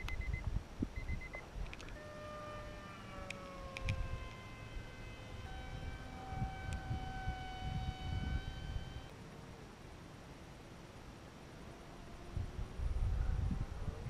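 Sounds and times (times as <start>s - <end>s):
electric motor and propeller whine: 1.0s - 9.6s, 11.3s - 14.0s.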